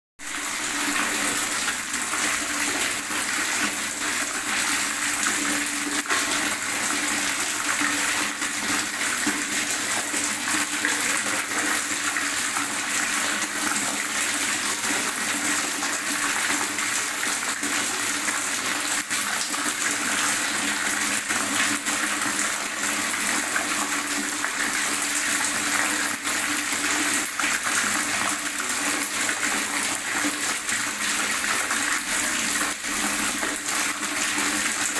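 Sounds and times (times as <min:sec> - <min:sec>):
water gurgling and splashing: 0:00.2 - 0:34.9.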